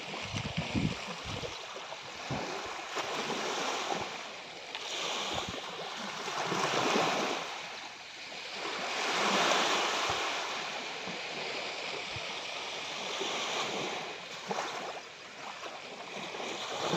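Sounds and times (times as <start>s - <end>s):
sea waves washing onto shore: 0.0s - 16.9s.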